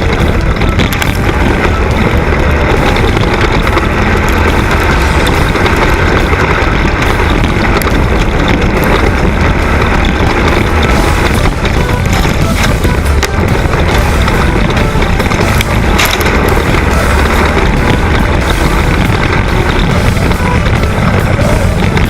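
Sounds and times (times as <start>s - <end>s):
snowmobile engines running hard: 0.0s - 22.0s.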